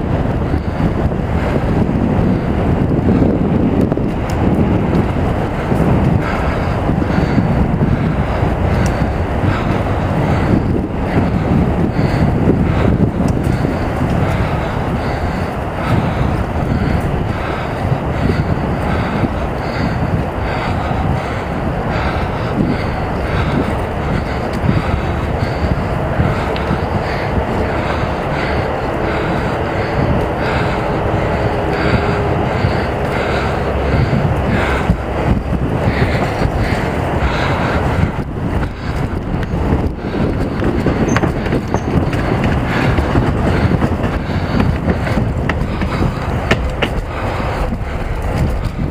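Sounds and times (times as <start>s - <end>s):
bicycle tyre rumble: 0.0s - 48.9s
bike rattling: 0.0s - 48.9s
wind rushing over microphone: 0.0s - 48.9s.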